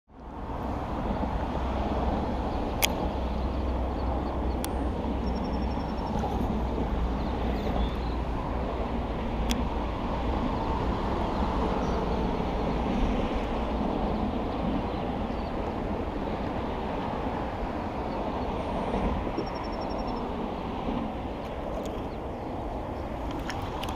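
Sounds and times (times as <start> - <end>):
road traffic rumble: 0.1 - 23.9.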